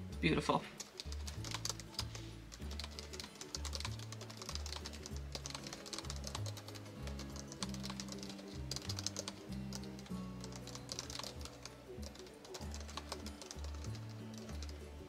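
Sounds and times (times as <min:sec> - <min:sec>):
soft background music: 0:00.0 - 0:15.0
typing on computer keyboard: 0:00.8 - 0:14.9.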